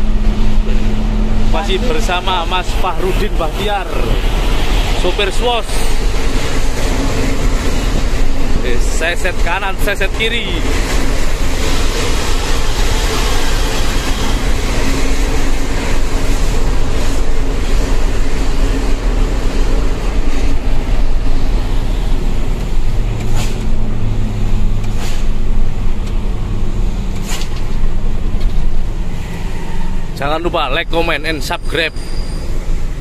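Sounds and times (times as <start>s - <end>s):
road noise: 0.0s - 33.0s
truck diesel engine rumble: 0.0s - 33.0s.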